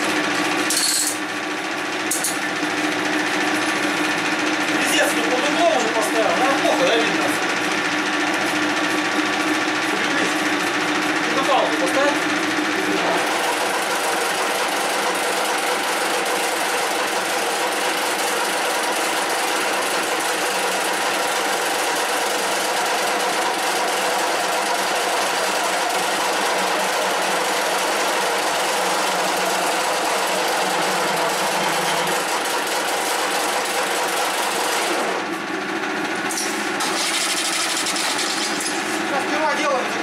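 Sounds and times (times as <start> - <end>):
lathe running: 0.0 - 40.0.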